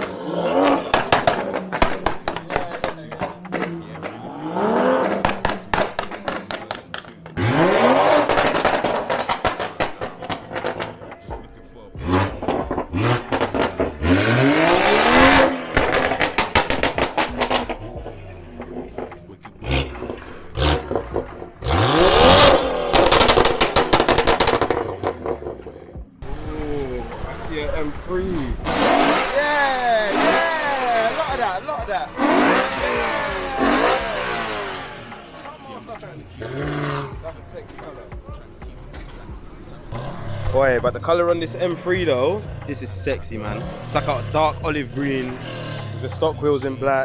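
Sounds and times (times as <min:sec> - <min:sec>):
sharp engine cracks: 0:00.0 - 0:11.5, 0:12.1 - 0:26.4, 0:27.1 - 0:46.7
car engine revving: 0:00.0 - 0:47.0.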